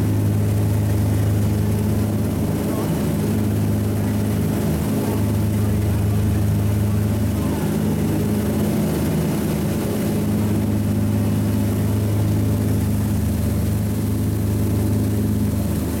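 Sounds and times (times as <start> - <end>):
motorboat engine drone: 0.0 - 16.0
water rushing in wake: 0.0 - 16.0.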